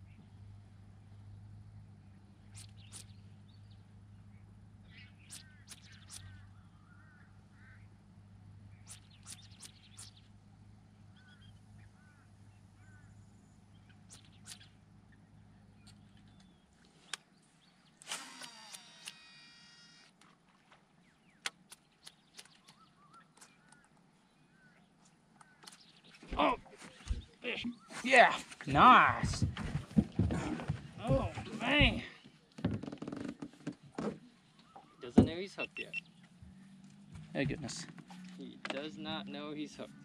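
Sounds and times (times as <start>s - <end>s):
birds chirping: 0.0s - 19.1s, 20.0s - 40.0s
low steady hum: 0.0s - 32.6s.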